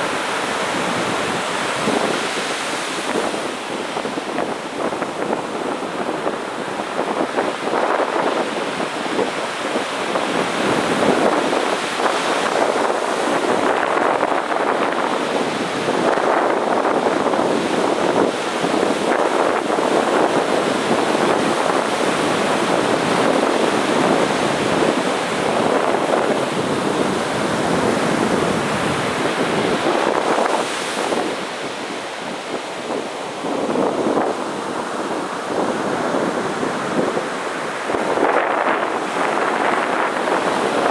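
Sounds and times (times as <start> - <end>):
sea surf breaking on beach: 0.0 - 40.9.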